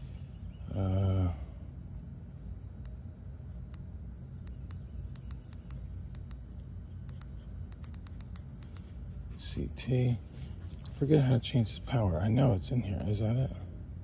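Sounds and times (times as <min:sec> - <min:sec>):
field insects chirping: 0:00.0 - 0:14.0.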